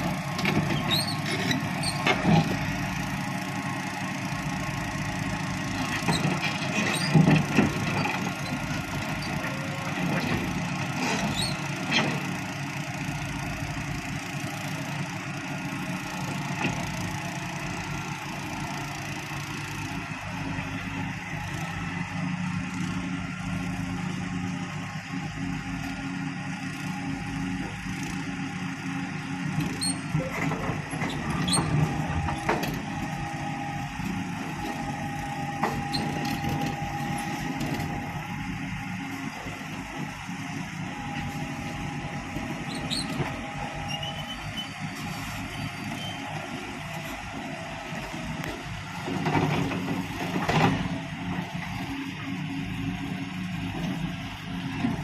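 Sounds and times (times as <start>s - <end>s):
diesel machinery running: 0.0s - 55.0s.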